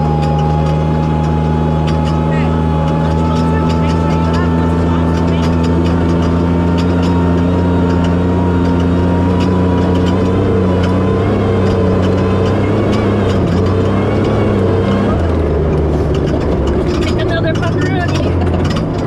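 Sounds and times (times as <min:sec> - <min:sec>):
engine pulling hard: 0:00.0 - 0:19.0
knocks and rattles: 0:00.0 - 0:19.0.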